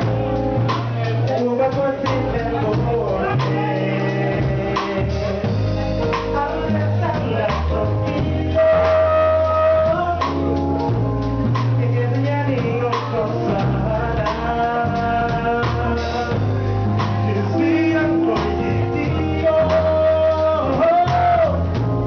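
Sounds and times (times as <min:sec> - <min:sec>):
bass line: 0:00.0 - 0:22.0
man singing into a microphone: 0:00.0 - 0:22.0.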